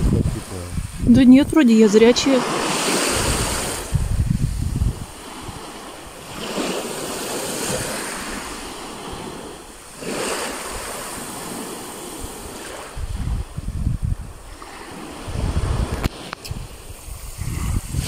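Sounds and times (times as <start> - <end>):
sea waves washing onto shore: 0.0 - 18.0
wind buffeting microphone: 0.0 - 18.0.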